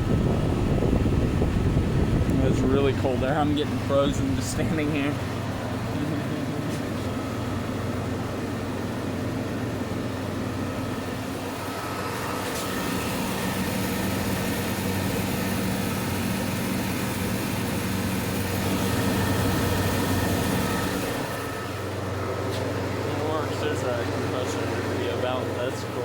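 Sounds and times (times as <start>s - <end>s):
compressor humming: 0.0s - 26.0s
fan blowing air: 0.0s - 26.0s.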